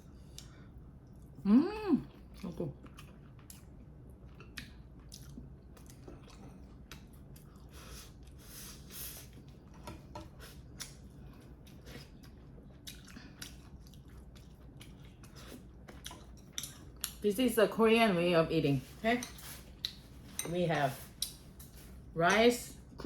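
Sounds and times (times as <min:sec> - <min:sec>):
person chewing food: 0:00.1 - 0:17.2, 0:19.4 - 0:20.4, 0:21.1 - 0:22.1.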